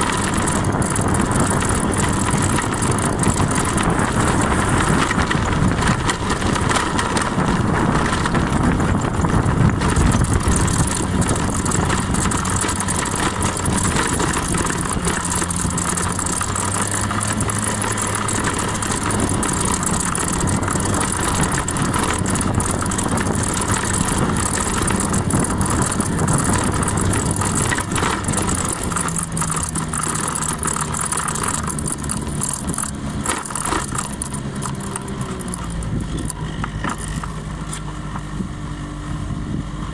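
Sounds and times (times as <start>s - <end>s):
broad rushing noise: 0.0s - 38.6s
scooter engine running: 0.0s - 39.9s.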